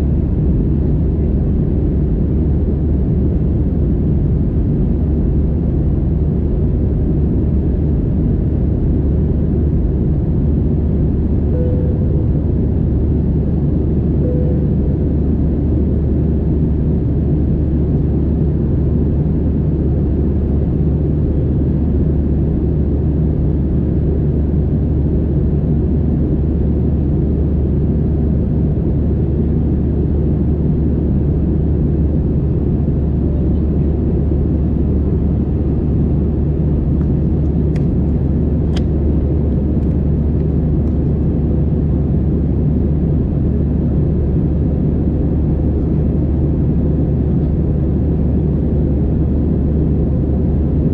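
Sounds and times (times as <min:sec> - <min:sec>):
aircraft cabin drone: 0:00.0 - 0:50.9
faint steady hum: 0:00.0 - 0:50.9.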